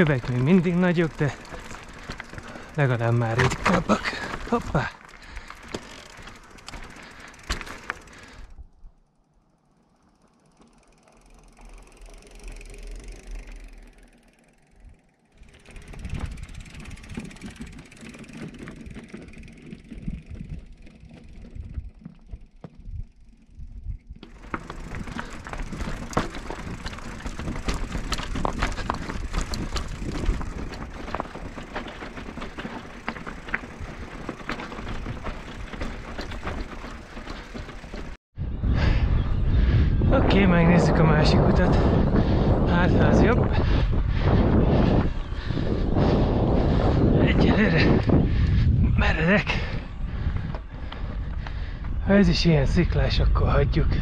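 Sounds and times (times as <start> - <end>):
bike chain and frame rattling: 0.0 - 38.2, 41.6 - 53.0
bike tyres over stones: 0.0 - 38.2, 40.0 - 54.0.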